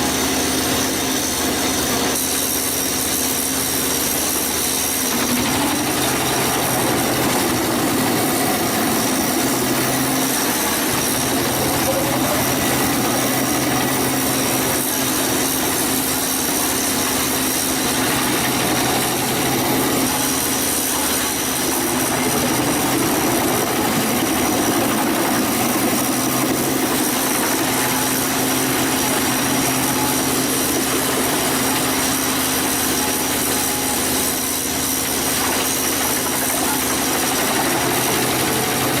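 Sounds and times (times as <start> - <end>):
wood chipper engine running: 0.0 - 39.0.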